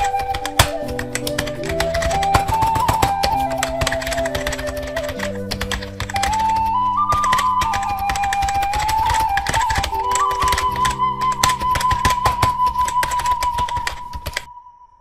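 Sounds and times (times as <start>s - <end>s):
keyboard typing clicks: 0.0s - 14.5s
background music: 0.0s - 15.0s.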